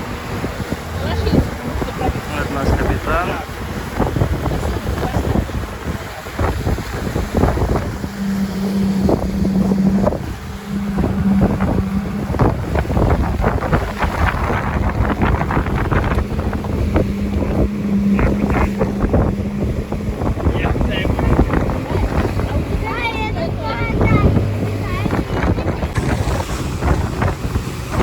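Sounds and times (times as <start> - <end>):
boat engine humming: 0.0 - 28.0
wind buffeting microphone: 0.0 - 28.0.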